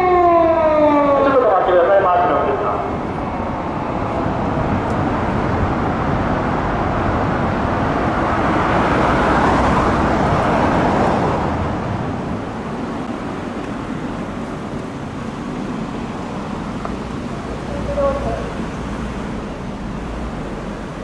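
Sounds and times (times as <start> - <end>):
road traffic noise: 0.0 - 21.0
vehicle passing: 3.6 - 21.0.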